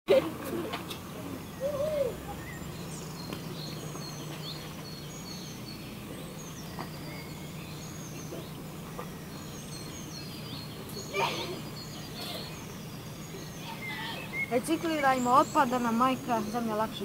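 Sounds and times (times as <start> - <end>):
low background hum: 0.1 - 17.0
small birds chirping: 0.4 - 17.0.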